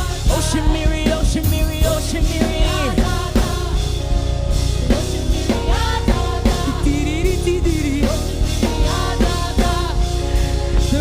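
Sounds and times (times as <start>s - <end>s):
drum kit beat: 0.0s - 11.0s
keyboard and bass: 0.0s - 11.0s
people singing: 0.0s - 11.0s.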